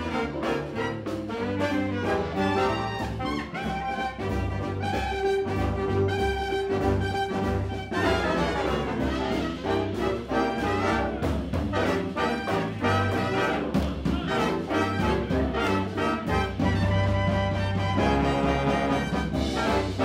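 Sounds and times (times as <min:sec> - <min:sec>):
swing jazz with brass: 0:00.0 - 0:20.0.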